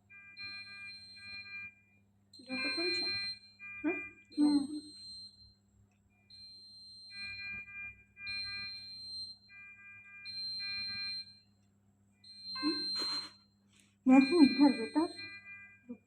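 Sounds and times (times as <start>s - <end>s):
electronic alarm beeping and chime: 0.0s - 1.8s, 2.4s - 5.6s, 6.3s - 11.5s, 12.2s - 16.0s.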